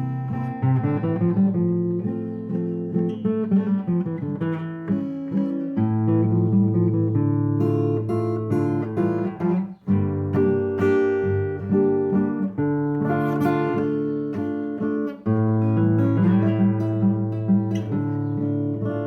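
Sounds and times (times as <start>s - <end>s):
acoustic guitar waltz: 0.0s - 19.0s.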